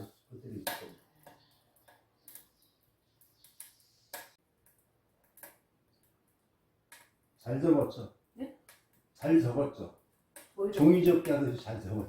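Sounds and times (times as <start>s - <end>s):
firewood crackling in a stove: 0.0s - 12.0s.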